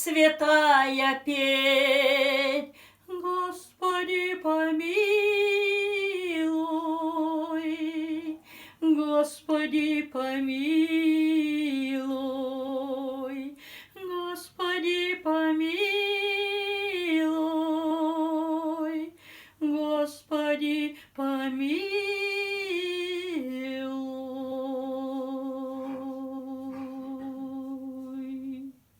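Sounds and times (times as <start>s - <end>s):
woman singing wordless melody: 0.0s - 28.9s.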